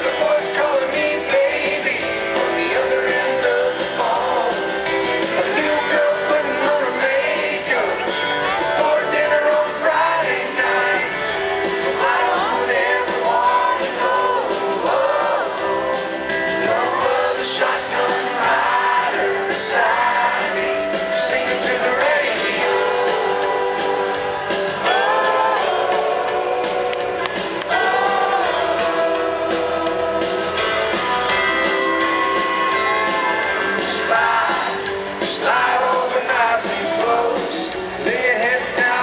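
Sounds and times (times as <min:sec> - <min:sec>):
man singing: 0:00.0 - 0:26.9, 0:27.7 - 0:31.0, 0:33.0 - 0:39.0
country band playing: 0:00.0 - 0:39.0.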